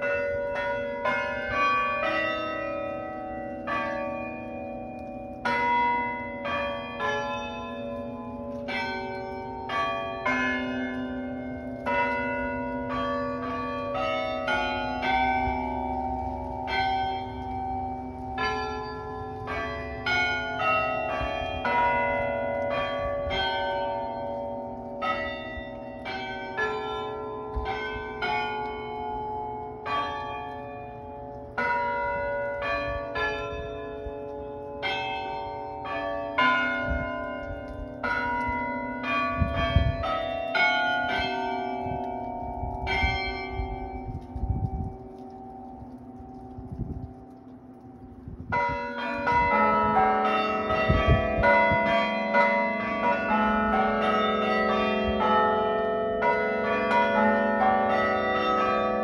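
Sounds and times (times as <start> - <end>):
tower bells playing tune: 0.0 - 44.4, 48.5 - 59.0.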